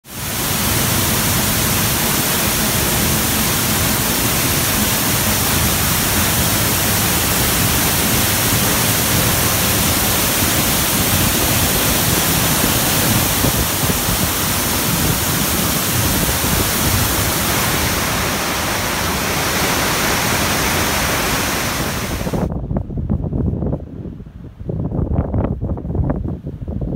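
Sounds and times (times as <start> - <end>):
waterfall rushing: 0.0 - 22.5.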